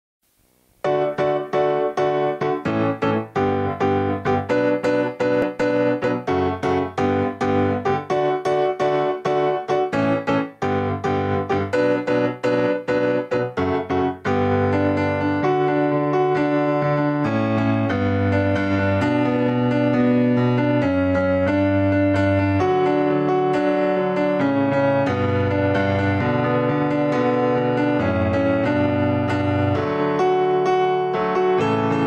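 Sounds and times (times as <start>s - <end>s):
piano chords: 0.4s - 32.0s.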